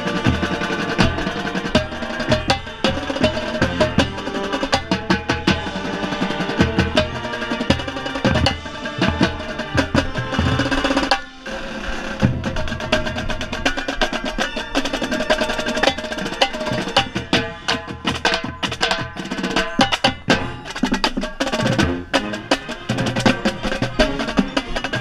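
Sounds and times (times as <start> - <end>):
brass chords: 0.0 - 18.4, 20.2 - 25.0
tenor drums fast strokes: 0.0 - 25.0.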